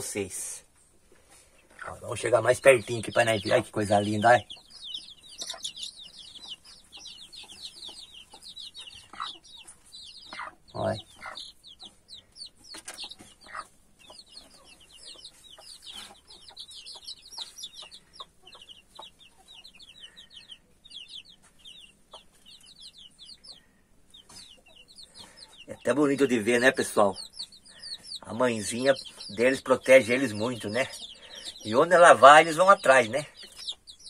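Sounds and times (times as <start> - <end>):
chicks peeping: 0.0 - 34.0
hen clucking: 0.0 - 34.0.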